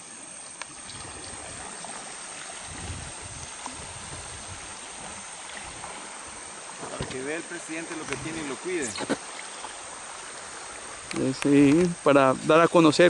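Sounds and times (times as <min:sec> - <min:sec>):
river water rushing past boat: 0:00.0 - 0:13.0.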